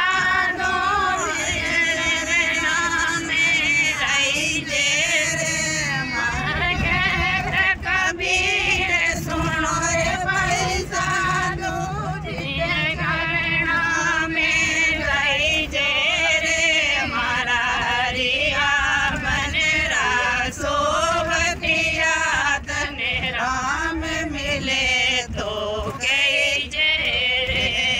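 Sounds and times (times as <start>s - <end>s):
woman singing: 0.0s - 27.9s.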